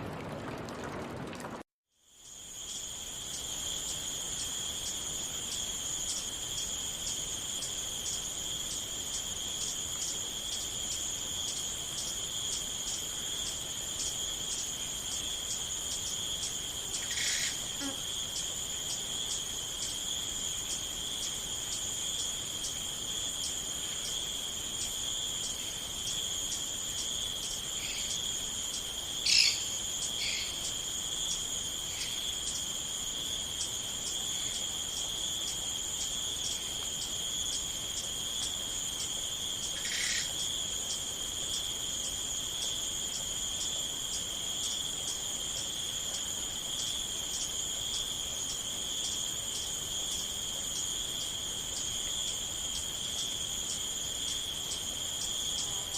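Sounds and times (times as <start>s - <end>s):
crickets trilling: 2.1s - 55.9s.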